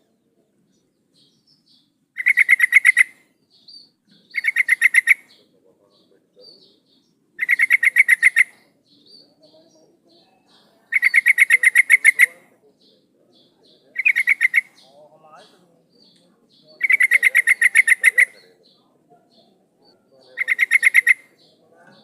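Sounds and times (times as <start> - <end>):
faint high bird chirps: 0.0 - 22.0
bird rapid chattering calls: 1.2 - 22.0.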